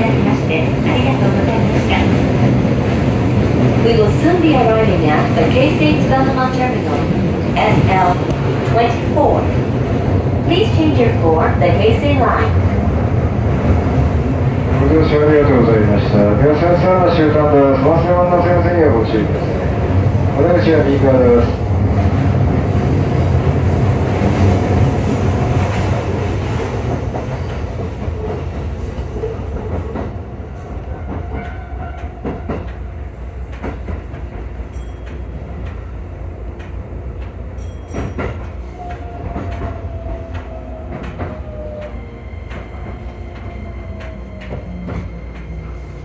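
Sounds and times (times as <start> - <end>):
train low rumble: 0.0 - 46.0.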